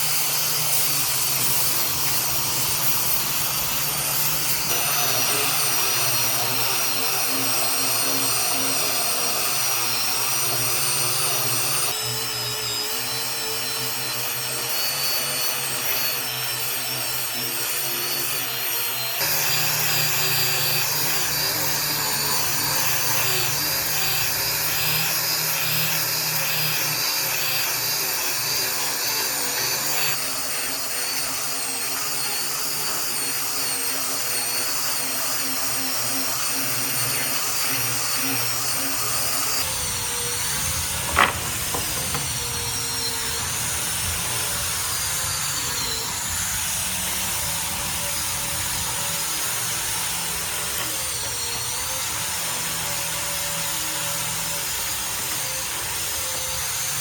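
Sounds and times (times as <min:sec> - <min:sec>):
electric power tools cutting wood: 0:00.0 - 0:57.0.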